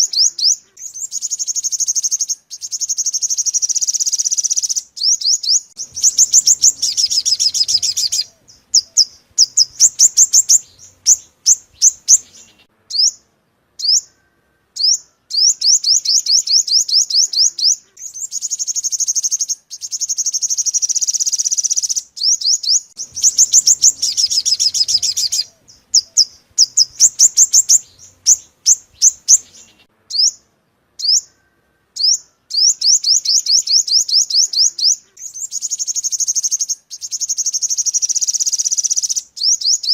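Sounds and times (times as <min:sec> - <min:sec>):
sharp bird chirps: 0:00.0 - 0:39.9
sunbird trilling: 0:00.0 - 0:39.9.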